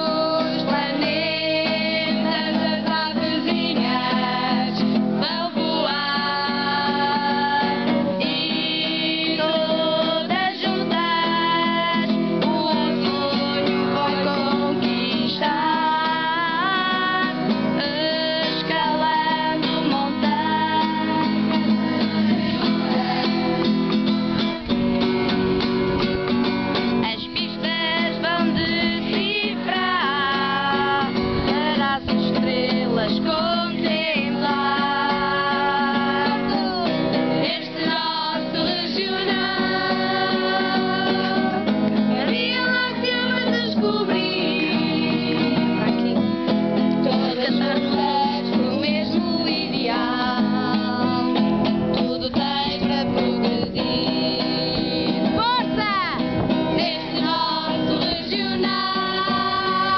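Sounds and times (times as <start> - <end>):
people singing: 0.0 - 24.8, 27.0 - 59.9
acoustic guitar strumming: 0.0 - 59.9.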